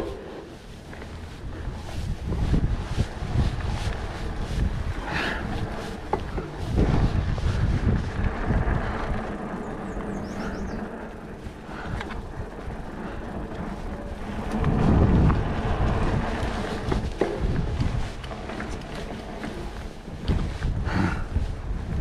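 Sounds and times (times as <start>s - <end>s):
bike tyres rolling on dirt: 0.0s - 22.0s
wind buffeting microphone: 0.0s - 22.0s
bike knocks and rattles: 0.9s - 22.0s.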